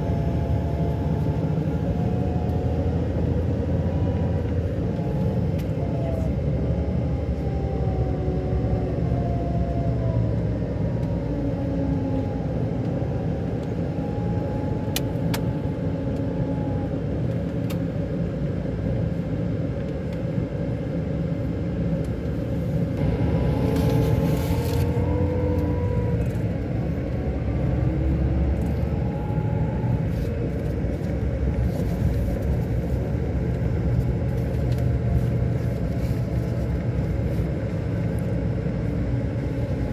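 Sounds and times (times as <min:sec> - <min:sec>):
bus engine rumbling and whining: 0:00.0 - 0:39.9.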